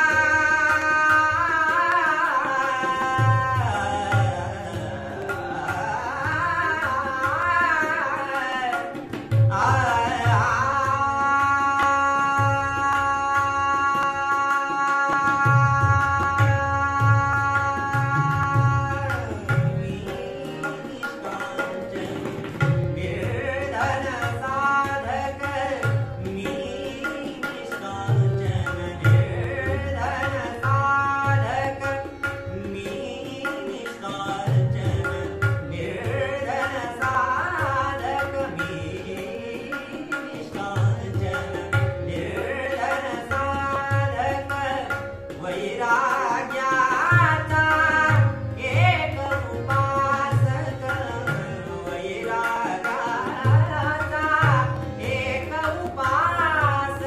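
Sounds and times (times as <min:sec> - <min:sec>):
harmonium chords: 0:00.0 - 0:57.0
man singing: 0:00.0 - 0:57.0
tabla strokes: 0:00.0 - 0:57.0.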